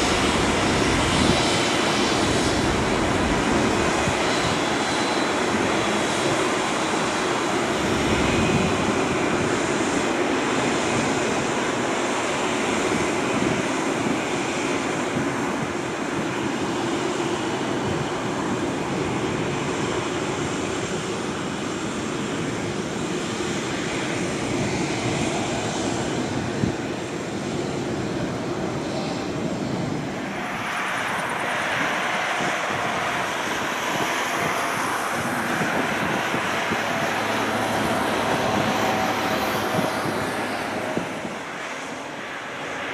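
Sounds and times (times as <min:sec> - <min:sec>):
jet engine noise: 0:00.0 - 0:42.9.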